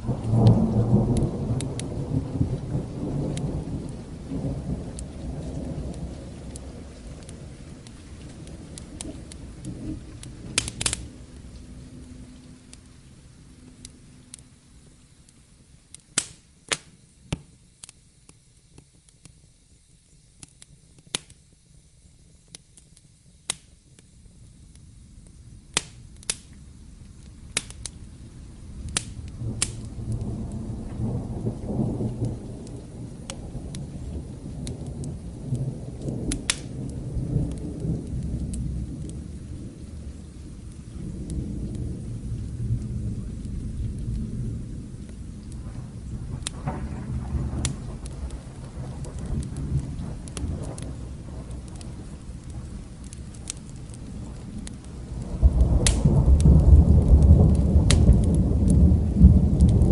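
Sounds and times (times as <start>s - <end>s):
low thunder rumble: 0.0s - 15.2s, 24.6s - 59.9s
faint steady rain: 0.0s - 59.9s
wood fire crackling and popping: 0.0s - 59.9s.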